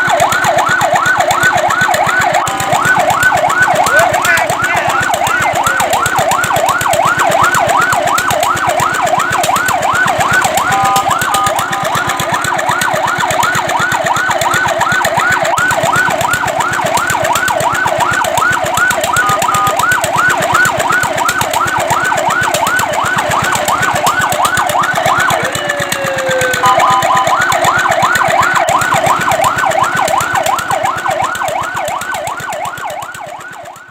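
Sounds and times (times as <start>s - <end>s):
fire truck siren yelping: 0.0s - 33.9s.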